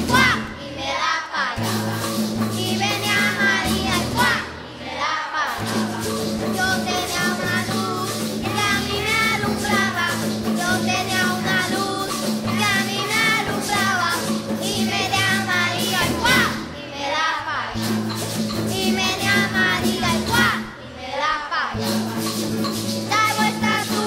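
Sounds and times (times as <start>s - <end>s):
live band playing: 0.0s - 21.1s, 21.7s - 24.0s
children's choir singing: 0.0s - 24.0s.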